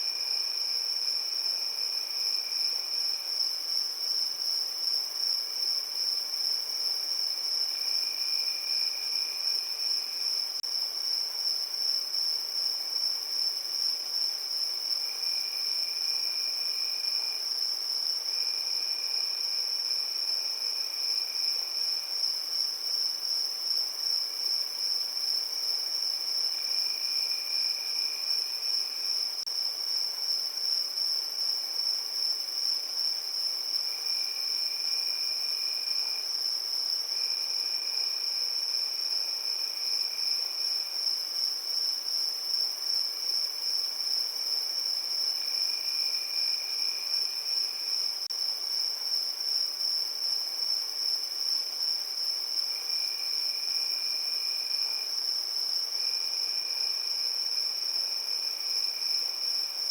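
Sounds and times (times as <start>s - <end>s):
crickets trilling: 0.0s - 59.9s
lower insect trill: 0.0s - 59.9s.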